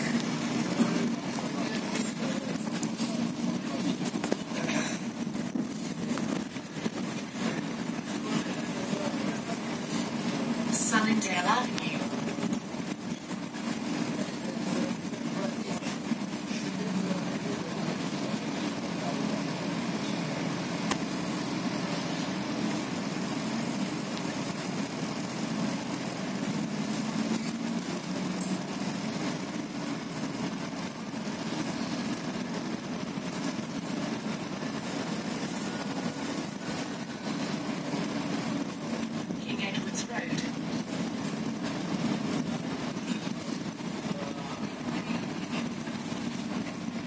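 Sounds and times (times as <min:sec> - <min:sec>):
bus engine and road hum: 0:00.0 - 0:47.0.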